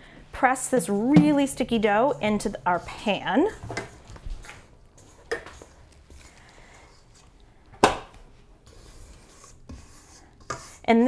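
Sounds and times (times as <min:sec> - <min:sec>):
spatula scraping metal bowl: 0:00.6 - 0:07.3, 0:08.6 - 0:11.0.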